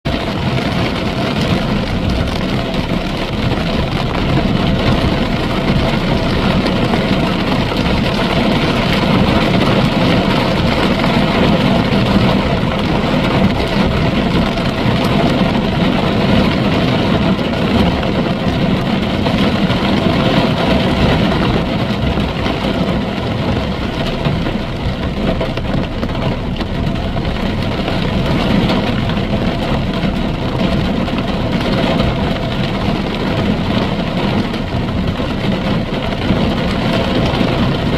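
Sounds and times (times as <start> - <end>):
constant wash of noise: 0.1 - 37.9.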